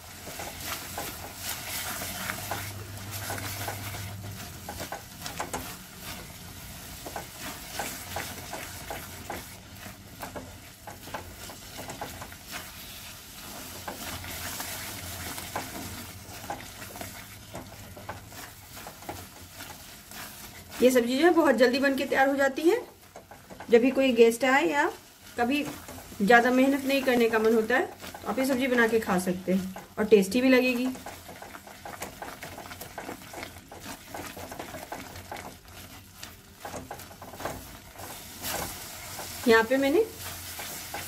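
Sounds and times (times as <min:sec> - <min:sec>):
masala sizzling in a pan: 0:00.0 - 0:41.0
spatula stirring and scraping: 0:00.0 - 0:41.0.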